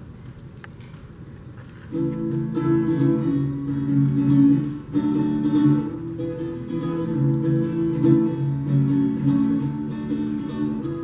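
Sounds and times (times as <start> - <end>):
acoustic guitar strumming chords: 1.9 - 11.0.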